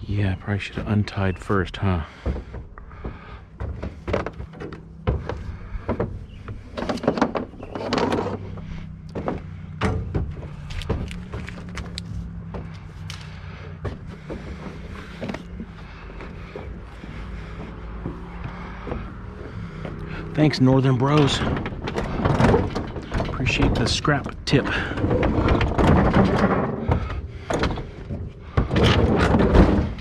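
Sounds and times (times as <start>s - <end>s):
scrap metal clanking and rattling: 0.6s - 30.0s.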